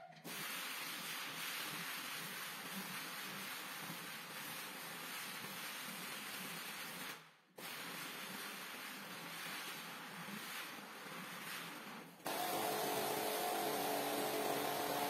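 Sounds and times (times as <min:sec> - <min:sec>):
floor machine scrubbing rug: 0:00.3 - 0:15.0.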